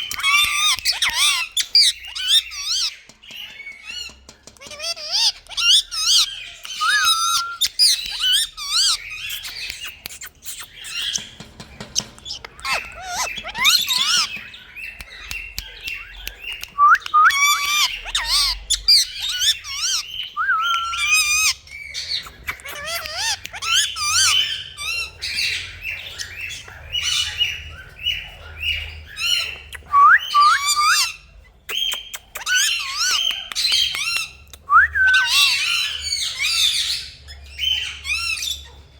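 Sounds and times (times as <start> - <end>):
parakeet chirping and squawking: 0.0 - 34.5, 35.1 - 38.9.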